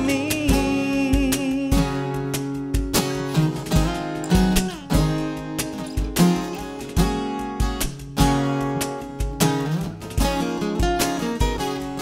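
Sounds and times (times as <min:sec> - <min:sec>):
acoustic guitars strumming: 0:00.0 - 0:12.0
cajon thumping beat: 0:00.0 - 0:12.0.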